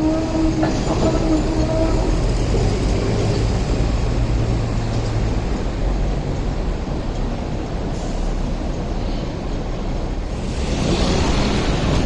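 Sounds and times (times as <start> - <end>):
trams rumbling on track: 0.0 - 12.0.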